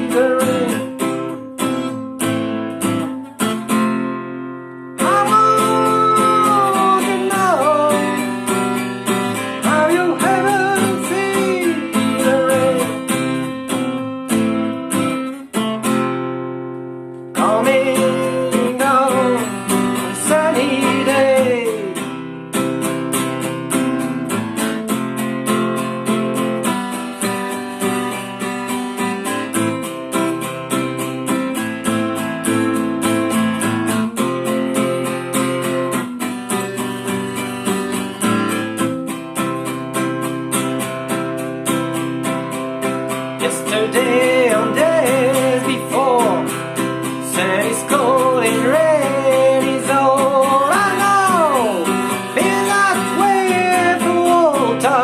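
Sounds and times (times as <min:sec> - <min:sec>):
bending guitar melody: 0:00.0 - 0:55.0
strummed acoustic guitar: 0:00.0 - 0:55.0.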